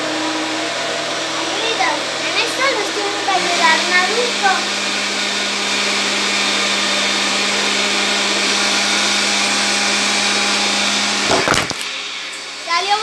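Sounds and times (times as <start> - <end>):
appliance motor humming and whining: 0.0 - 13.0.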